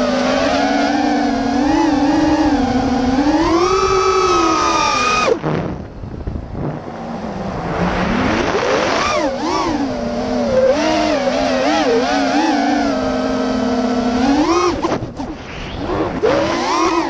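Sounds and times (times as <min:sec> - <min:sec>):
quadcopter motors whining: 0:00.0 - 0:05.5, 0:06.7 - 0:17.0.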